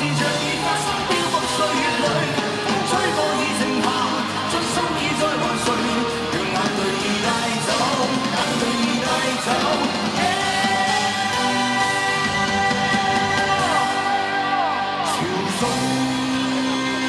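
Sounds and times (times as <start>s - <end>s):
live band playing: 0.0s - 17.0s
person singing: 0.0s - 17.0s.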